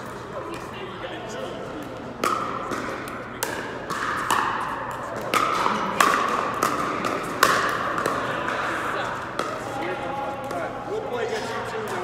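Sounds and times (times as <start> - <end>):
paddles hitting pickleball: 1.7 - 10.8, 11.4 - 12.0.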